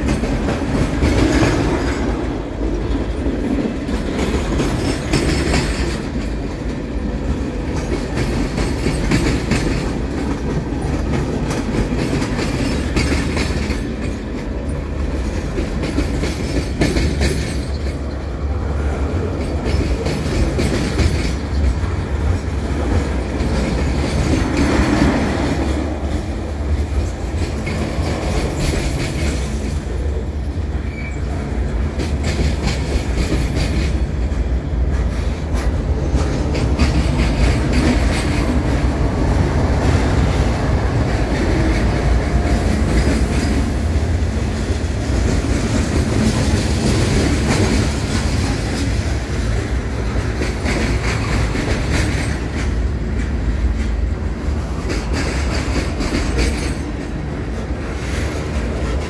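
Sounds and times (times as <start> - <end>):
train wheels rumbling: 0.0 - 59.0
wheels clicking over rail joints: 0.0 - 59.0.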